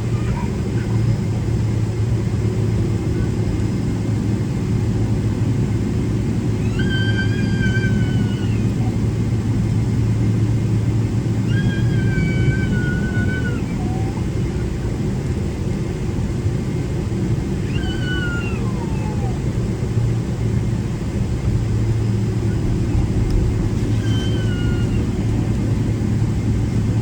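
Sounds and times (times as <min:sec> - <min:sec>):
aircraft cabin rumble and hum: 0:00.0 - 0:27.0.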